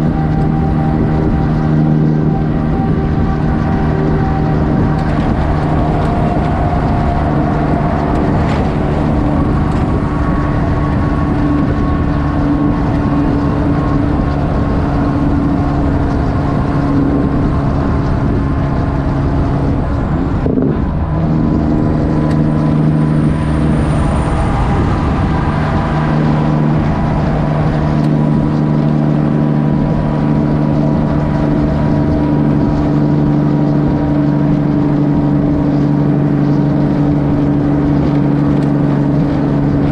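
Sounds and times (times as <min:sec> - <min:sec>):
loud truck diesel engine: 0:00.0 - 0:39.9.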